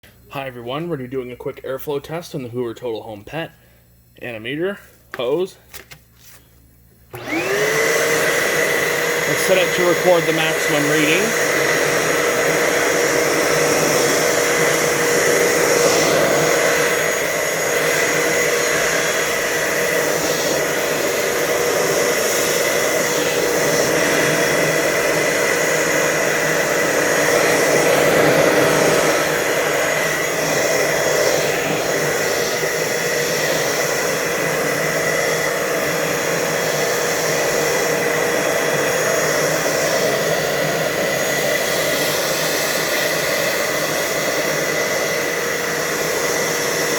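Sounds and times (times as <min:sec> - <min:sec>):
vacuum cleaner running: 0:07.1 - 0:46.9.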